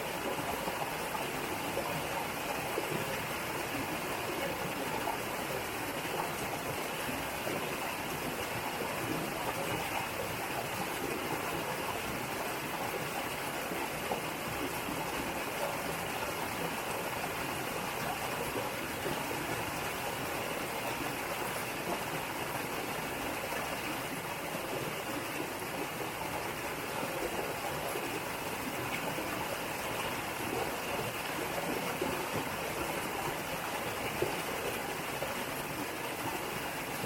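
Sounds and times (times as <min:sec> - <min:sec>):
stream running over rocks: 0:00.0 - 0:37.0.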